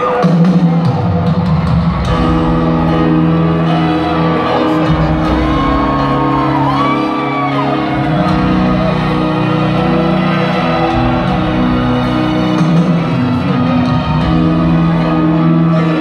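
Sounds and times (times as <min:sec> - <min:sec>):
rock piano ballad over pa: 0:00.0 - 0:16.0.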